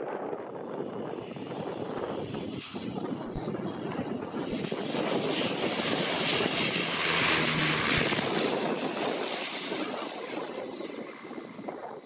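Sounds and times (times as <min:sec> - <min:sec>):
turboprop aircraft drone: 0:00.0 - 0:12.0.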